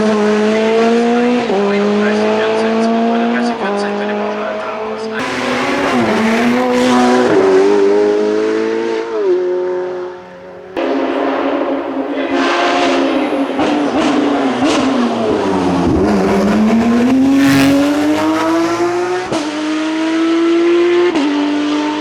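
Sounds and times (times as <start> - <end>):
gear changes: 0.0 - 21.3
racing car engine: 0.0 - 22.0.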